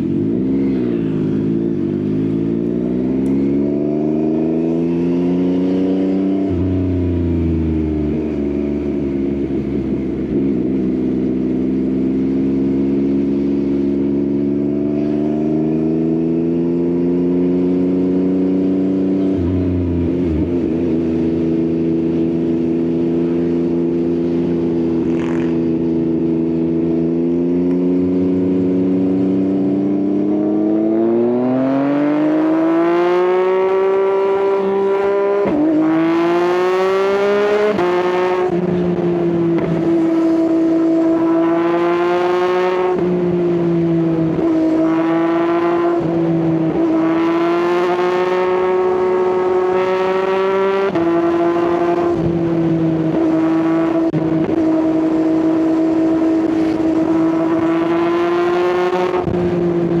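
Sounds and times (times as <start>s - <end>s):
motorcycle engine revving: 0.0s - 60.0s.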